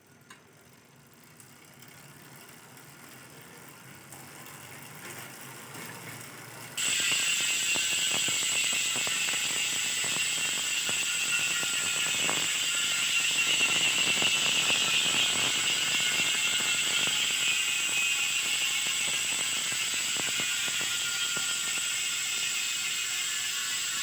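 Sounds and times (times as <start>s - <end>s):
bicycle hub ratcheting buzz: 0.1s - 24.0s.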